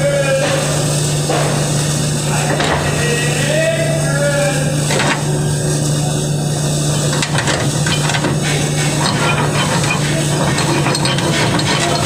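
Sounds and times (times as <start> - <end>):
workshop hum and hiss: 0.0 - 12.0.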